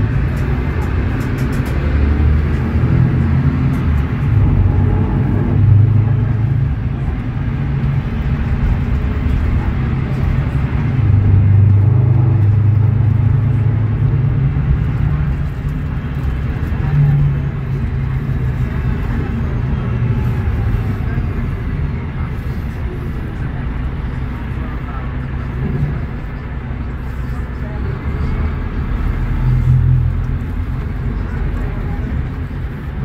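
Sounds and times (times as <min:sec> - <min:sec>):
bus engine drone from inside: 0:00.0 - 0:33.0.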